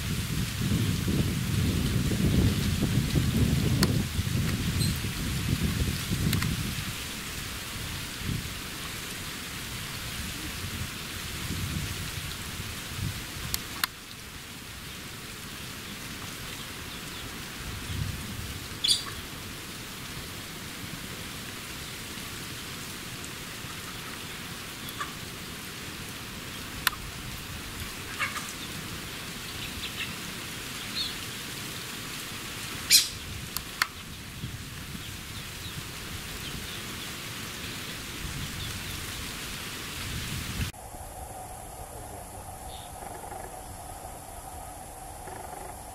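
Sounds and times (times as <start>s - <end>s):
rain-like hiss: 0.0s - 45.9s.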